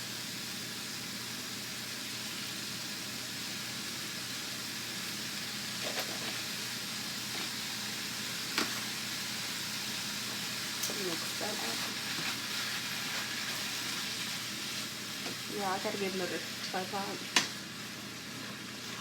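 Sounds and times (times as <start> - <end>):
meat sizzling in a pot: 0.0 - 19.0.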